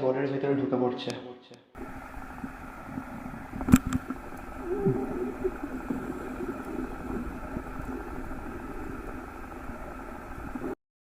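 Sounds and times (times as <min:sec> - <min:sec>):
muffled underwater rush: 0:01.8 - 0:10.8.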